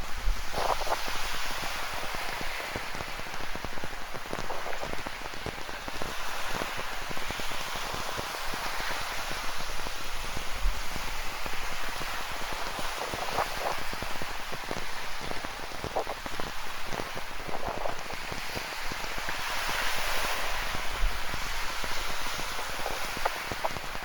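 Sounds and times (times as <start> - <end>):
rain patter on a surface: 0.0 - 24.0.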